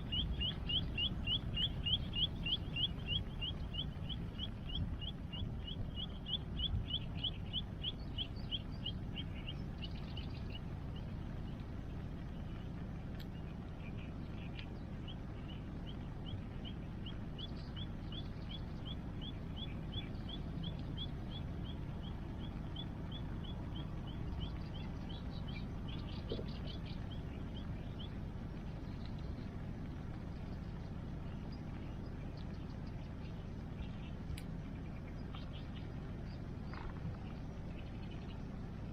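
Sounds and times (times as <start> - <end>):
bird chirping: 0.0 - 38.9
rushing water and rain: 0.0 - 38.9.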